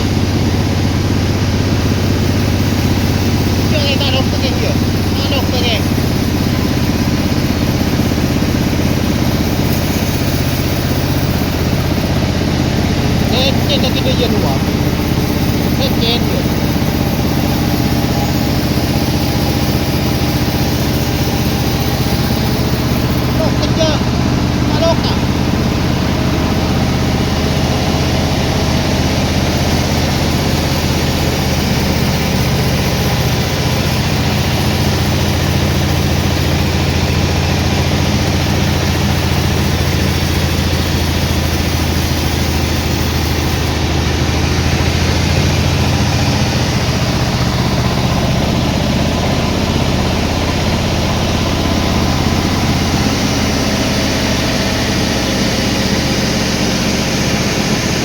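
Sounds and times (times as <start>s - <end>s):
sawmill engine droning: 0.0s - 58.0s.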